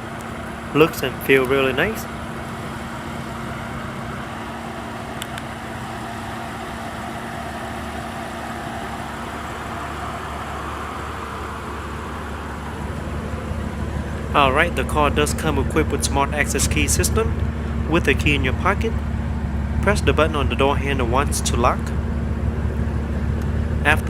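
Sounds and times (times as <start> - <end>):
constant hum: 0.0 - 24.0
vehicle rumble and hiss: 0.0 - 24.0.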